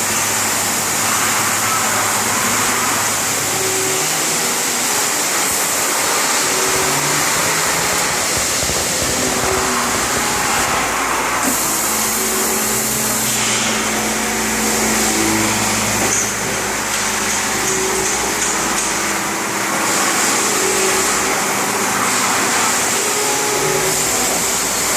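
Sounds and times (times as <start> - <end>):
machine hissing and humming: 0.0 - 24.9.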